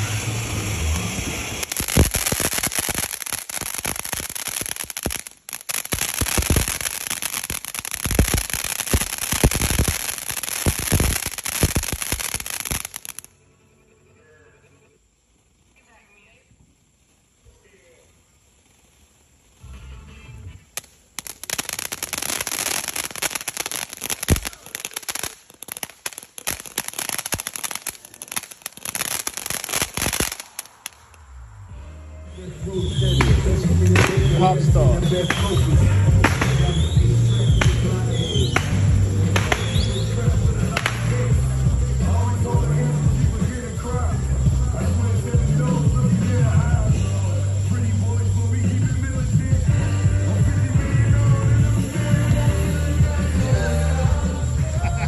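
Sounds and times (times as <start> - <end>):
fireworks bangs: 0.0 - 13.3, 18.6 - 55.0
fireworks crackling: 0.0 - 55.0.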